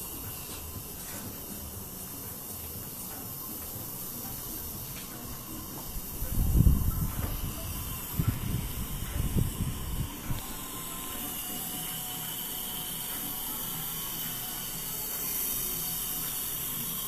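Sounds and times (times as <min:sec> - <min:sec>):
dental suction hissing: 0:00.0 - 0:17.0.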